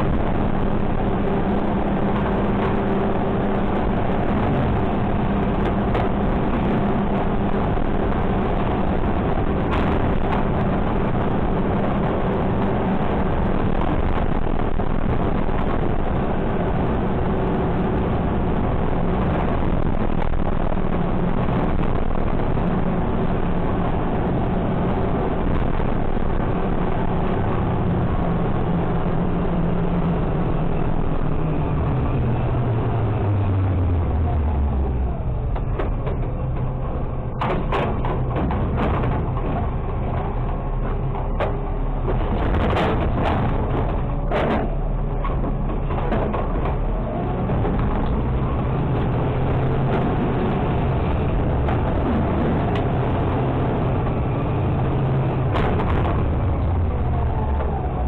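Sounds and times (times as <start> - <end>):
garbage truck engine humming: 0.0 - 58.0
road noise: 0.0 - 58.0.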